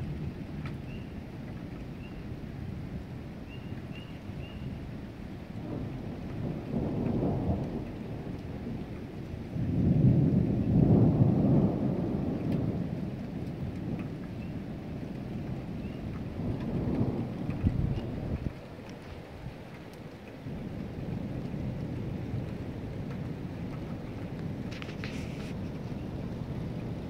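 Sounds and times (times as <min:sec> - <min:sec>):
steady rain: 0:00.0 - 0:27.0
thunder rumbling: 0:00.0 - 0:27.0.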